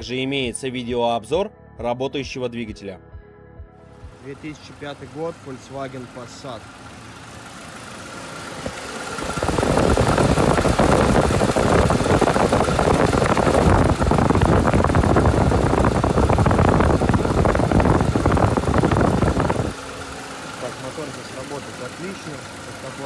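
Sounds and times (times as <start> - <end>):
car engine idling: 4.0 - 23.0.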